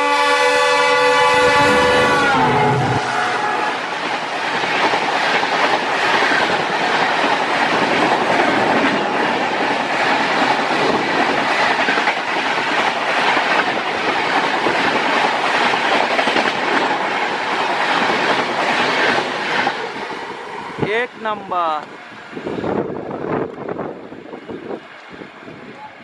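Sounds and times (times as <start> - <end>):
train rushing past: 0.0 - 26.0.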